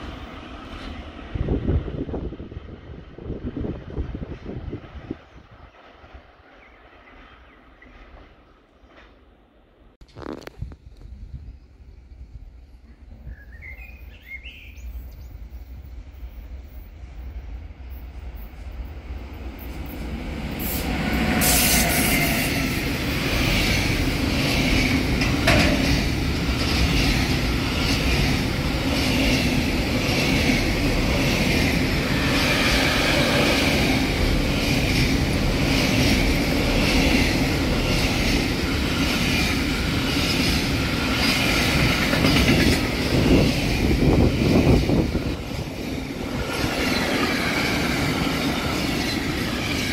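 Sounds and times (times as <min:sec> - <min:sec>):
freight train rumbling past: 0:00.0 - 0:10.0, 0:10.9 - 0:49.9.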